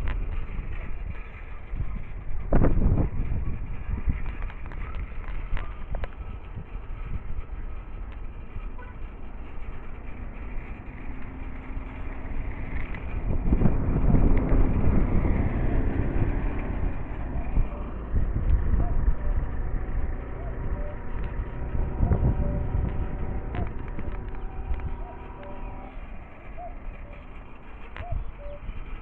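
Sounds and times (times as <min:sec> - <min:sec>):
tyres rumbling on dirt road: 0:00.0 - 0:29.0
wind buffeting microphone: 0:00.0 - 0:29.0.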